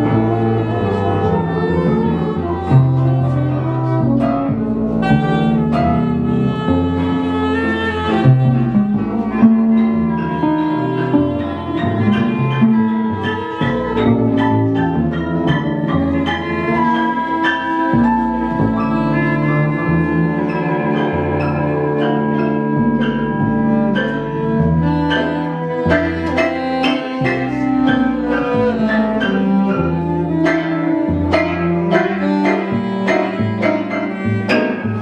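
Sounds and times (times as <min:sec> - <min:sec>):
bowed double bass and cello: 0:00.0 - 0:35.0
plucked string notes: 0:00.0 - 0:35.0
soprano saxophone melody: 0:00.0 - 0:35.0.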